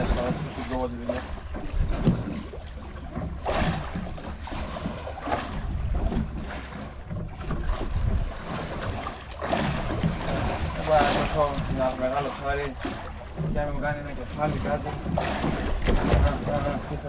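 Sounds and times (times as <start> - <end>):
water splashing against boat hull: 0.0 - 17.0
wind buffeting microphone: 0.0 - 17.0.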